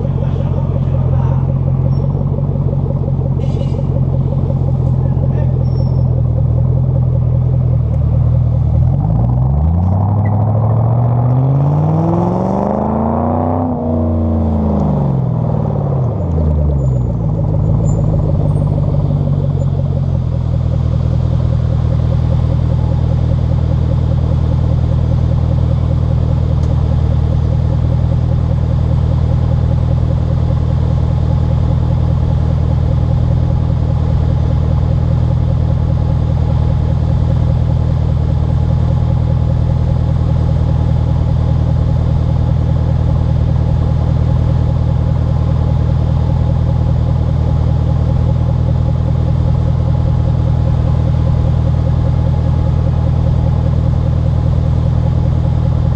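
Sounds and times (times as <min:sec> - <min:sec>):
car exhaust idling and revving: 0:00.0 - 0:55.9.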